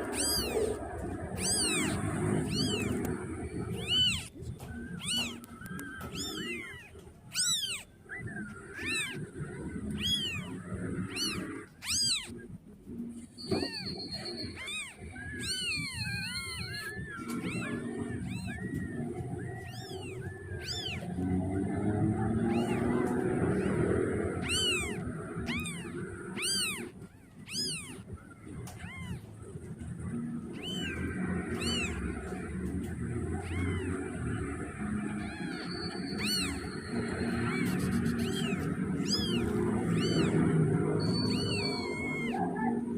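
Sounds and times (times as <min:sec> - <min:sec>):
kitten mewing: 0:00.0 - 0:04.3, 0:04.9 - 0:07.9, 0:08.8 - 0:12.4, 0:13.4 - 0:21.3, 0:22.2 - 0:42.9
low background hum: 0:00.0 - 0:42.9.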